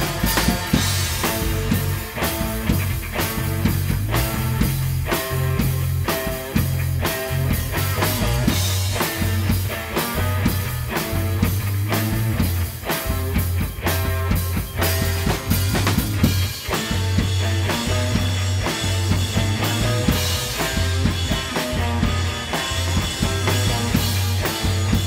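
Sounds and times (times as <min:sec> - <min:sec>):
rock music with drums and bass: 0:00.0 - 0:25.0.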